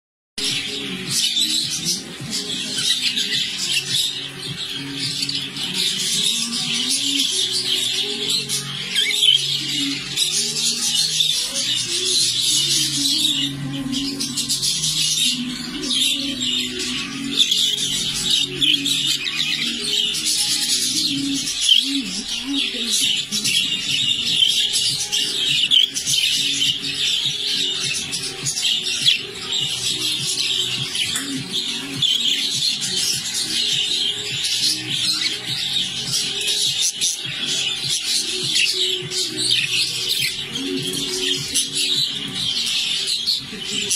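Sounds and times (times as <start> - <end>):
background music of low notes: 0.4 - 43.9
budgerigars chattering: 0.5 - 43.9.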